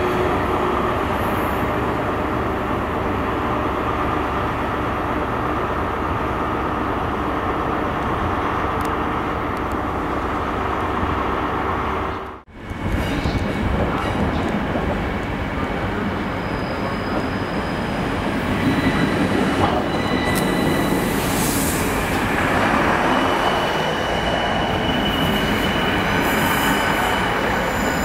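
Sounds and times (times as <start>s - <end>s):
diesel train engine: 0.0s - 28.0s.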